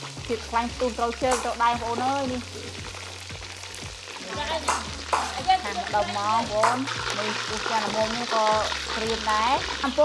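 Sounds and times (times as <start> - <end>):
background music: 0.0 - 10.0
food sizzling in a pan: 0.0 - 10.0.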